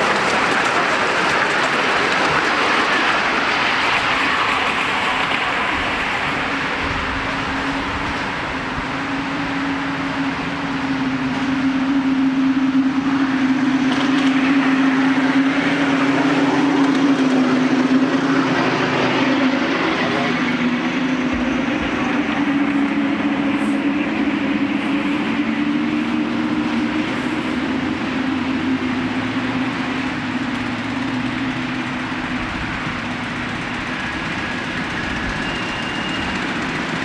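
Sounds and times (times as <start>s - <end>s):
miniature train rumbling on rails: 0.0s - 37.0s.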